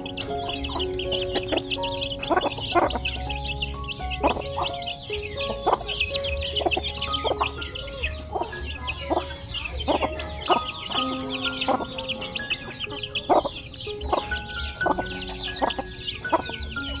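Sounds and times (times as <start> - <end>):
chickens clucking: 0.0 - 17.0
high-pitched chirping chorus: 0.0 - 17.0.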